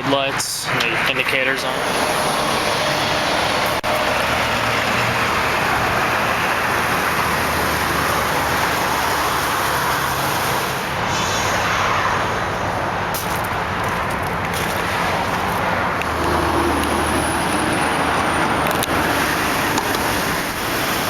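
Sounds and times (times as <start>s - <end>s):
highway traffic rushing past: 0.0s - 21.0s.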